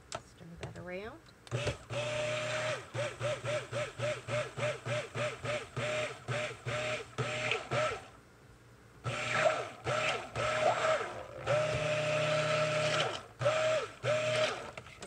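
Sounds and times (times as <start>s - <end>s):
stick blender motor whine: 1.5s - 8.2s, 9.0s - 14.9s.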